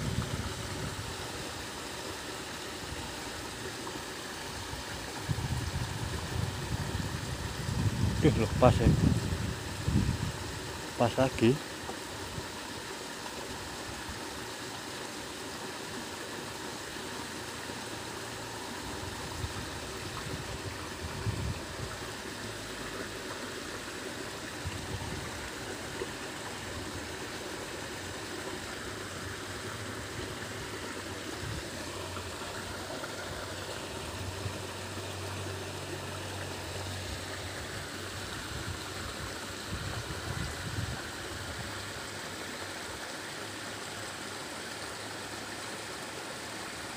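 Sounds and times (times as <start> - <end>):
stream splashing over rocks: 0.0 - 46.9.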